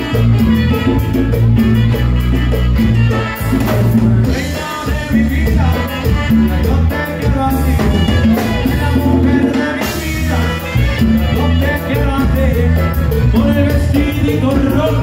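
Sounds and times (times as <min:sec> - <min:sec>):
bajo sexto guitar: 0:00.0 - 0:15.0
button accordion: 0:00.0 - 0:15.0
drum kit beat: 0:00.0 - 0:15.0
electric bass: 0:00.0 - 0:15.0
saxophones: 0:00.0 - 0:15.0.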